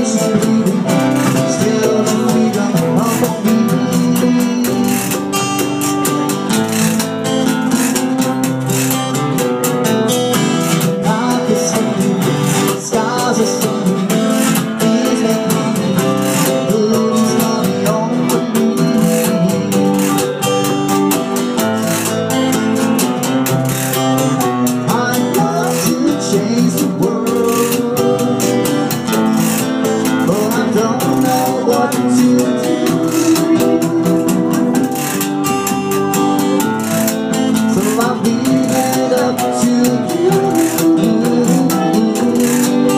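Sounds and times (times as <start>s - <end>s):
hand drum beat: 0.0s - 42.9s
harmonica with bent notes: 0.0s - 42.9s
strummed acoustic guitars: 0.0s - 42.9s.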